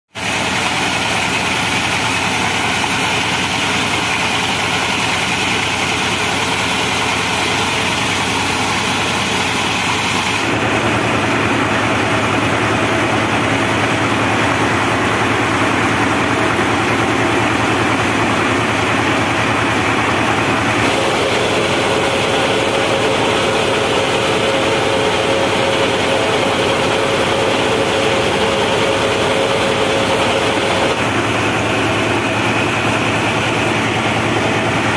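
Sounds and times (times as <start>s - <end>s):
sawmill diesel engine running: 0.1s - 34.9s.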